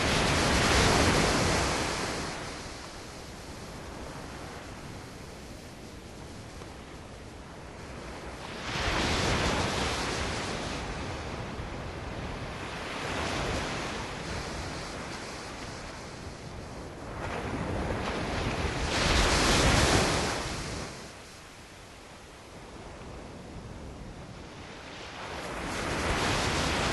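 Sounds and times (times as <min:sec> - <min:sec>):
ocean waves breaking: 0:00.0 - 0:22.2, 0:23.0 - 0:26.9.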